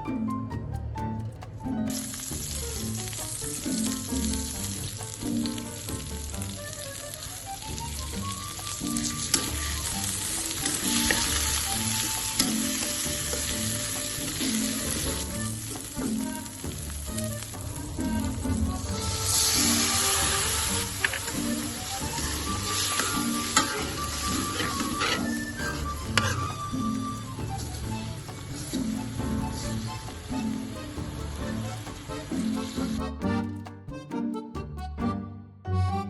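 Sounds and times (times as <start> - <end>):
background music: 0.0 - 36.0
stirring clicks: 1.3 - 33.8
food sizzling in hot oil: 1.9 - 32.8.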